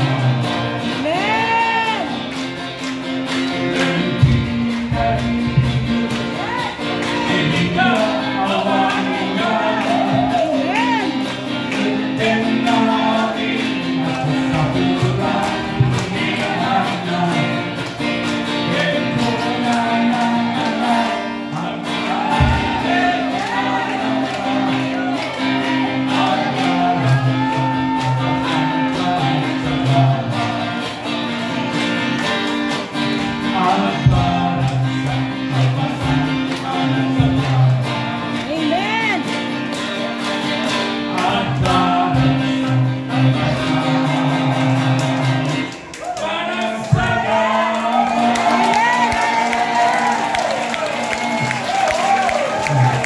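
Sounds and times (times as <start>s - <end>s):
men singing into microphones: 0.0s - 2.2s, 3.3s - 39.2s, 40.5s - 53.0s
strummed acoustic guitar: 0.0s - 53.0s.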